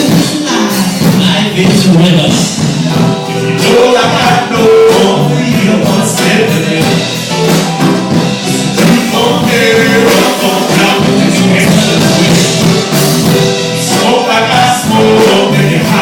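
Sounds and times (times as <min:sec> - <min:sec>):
band playing a song with singing: 0:00.0 - 0:16.0.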